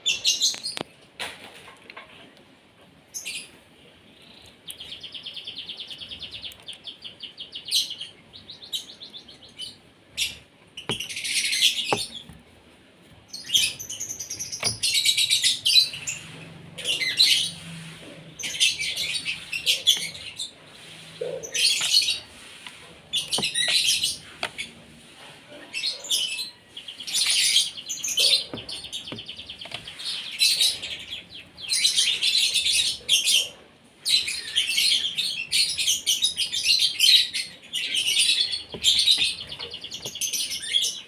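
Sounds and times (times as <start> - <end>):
harsh chattering bird calls: 4.2 - 12.4, 13.3 - 22.4, 23.0 - 24.8, 25.6 - 41.0.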